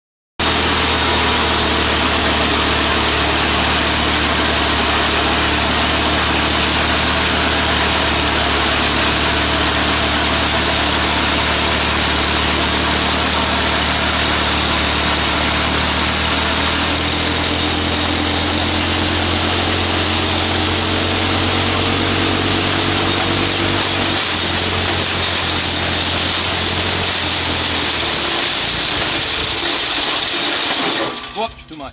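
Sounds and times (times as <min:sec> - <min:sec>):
wood chipper engine running: 0:00.4 - 0:31.9.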